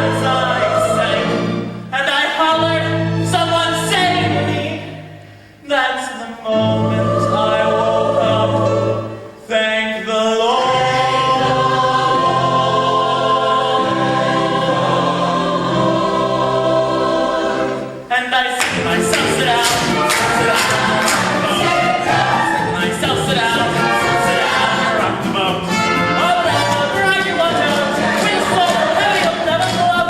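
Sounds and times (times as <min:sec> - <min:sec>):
ensemble of voices singing: 0:00.0 - 0:02.1, 0:05.9 - 0:30.0.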